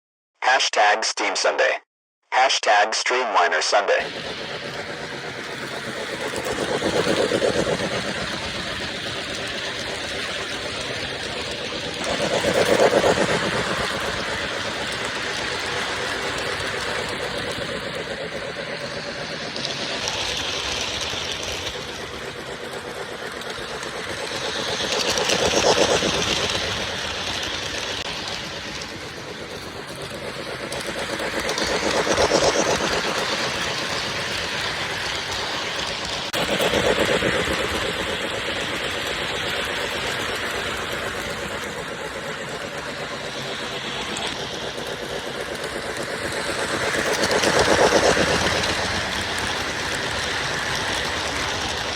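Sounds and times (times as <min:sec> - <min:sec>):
model train rolling rumble: 0:04.1 - 0:18.5, 0:19.5 - 0:36.4, 0:37.0 - 0:41.7, 0:42.3 - 0:51.9.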